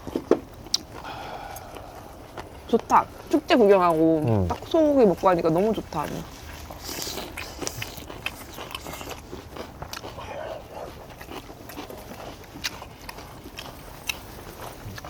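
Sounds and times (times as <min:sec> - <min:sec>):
chewing and mouth noises: 0:00.0 - 0:15.0.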